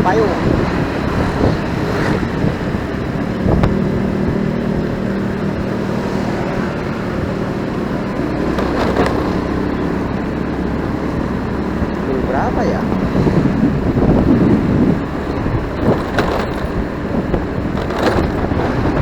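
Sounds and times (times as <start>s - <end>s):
motorcycle engine hum: 0.0s - 19.0s
passing traffic: 0.0s - 19.0s
road and wind noise: 0.0s - 19.0s.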